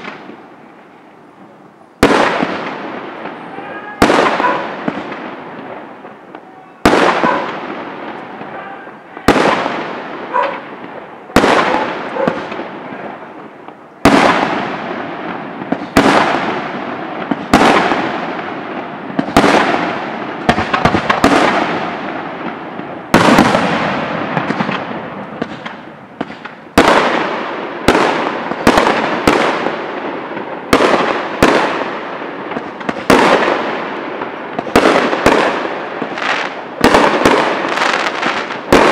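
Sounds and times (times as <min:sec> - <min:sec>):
long rolling echo: 0:00.0 - 0:38.9.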